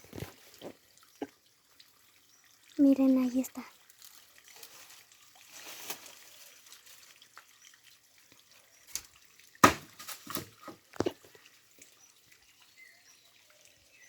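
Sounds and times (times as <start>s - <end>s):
water dripping among rocks: 0.0s - 14.0s.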